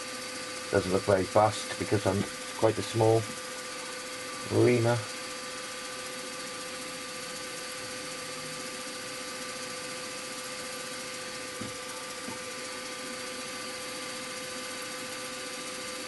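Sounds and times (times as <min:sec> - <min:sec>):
milling machine spindle whine: 0:00.0 - 0:16.0.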